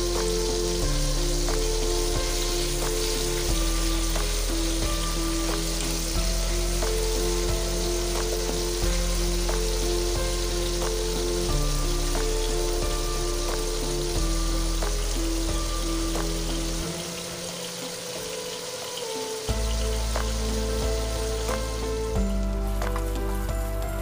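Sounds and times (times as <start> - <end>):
background music of held notes: 0.0 - 24.0
meat sizzling in oil: 0.0 - 24.0.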